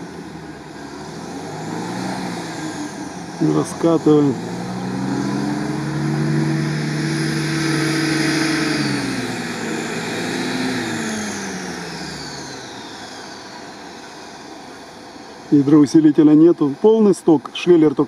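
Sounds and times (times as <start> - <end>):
vehicle engine straining in mud: 0.0 - 18.0.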